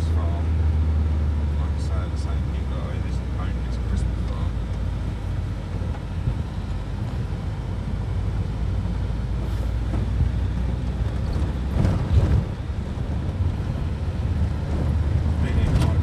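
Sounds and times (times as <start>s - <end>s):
car driving on wet road: 0.0s - 16.0s.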